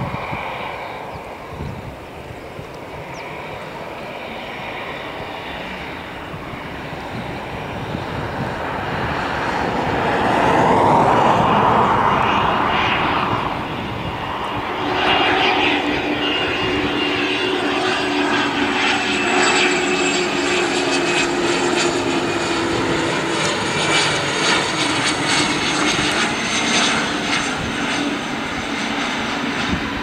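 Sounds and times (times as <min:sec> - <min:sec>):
jet landing rush: 0:00.0 - 0:30.0
steady jet whine: 0:00.0 - 0:30.0.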